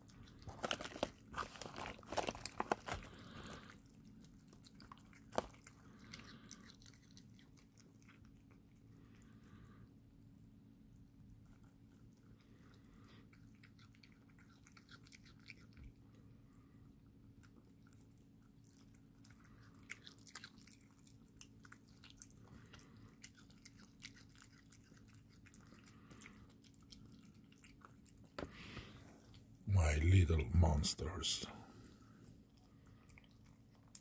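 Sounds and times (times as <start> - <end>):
kittens chewing: 0.0 - 34.0
low steady hum: 0.0 - 34.0.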